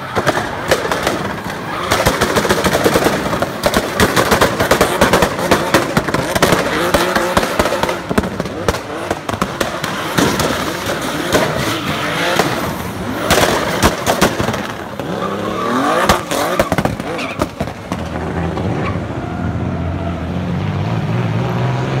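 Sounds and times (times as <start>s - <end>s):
exhaust pops and crackles: 0.0s - 18.8s
car engine revving: 0.0s - 22.0s.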